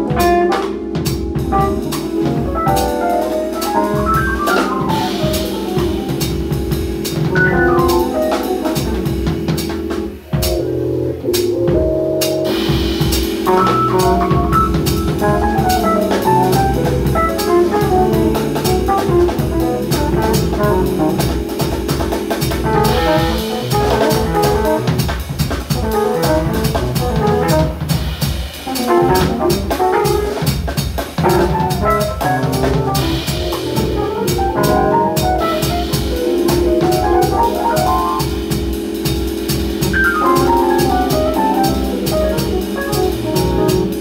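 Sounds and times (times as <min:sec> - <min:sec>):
trumpet: 0:00.0 - 0:09.6, 0:12.7 - 0:44.0
drum kit with cymbals: 0:00.0 - 0:44.0
keyboards sustained low notes: 0:00.0 - 0:44.0.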